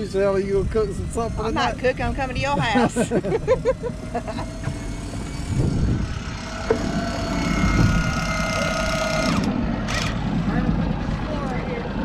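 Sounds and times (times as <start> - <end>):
outboard motors idling: 0.0 - 12.0.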